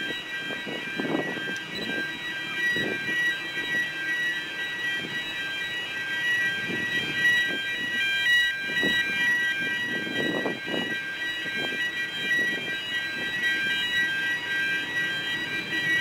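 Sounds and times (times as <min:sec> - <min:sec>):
electronic warning alarm tones: 0:00.0 - 0:16.0.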